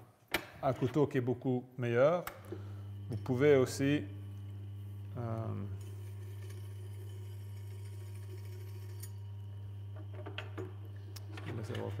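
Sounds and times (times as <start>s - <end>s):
motor hum: 2.3s - 12.0s.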